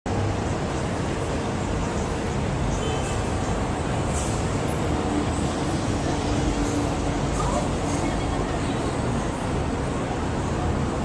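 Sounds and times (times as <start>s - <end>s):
passing vehicles and engines: 0.1s - 11.0s.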